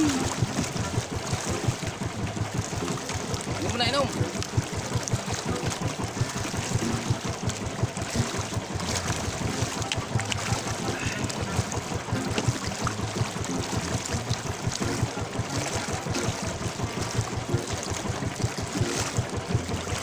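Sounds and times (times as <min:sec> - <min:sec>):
water lapping against boat: 0:00.0 - 0:20.0.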